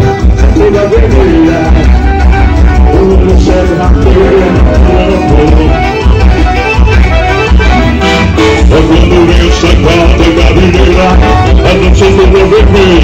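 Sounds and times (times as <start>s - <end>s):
heavy bass beat: 0.0s - 13.0s
loud live band music: 0.0s - 13.0s.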